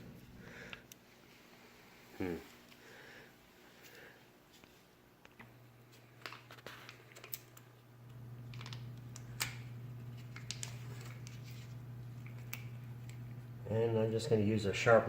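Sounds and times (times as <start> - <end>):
steady low hum: 0.0 - 6.1, 7.6 - 15.0.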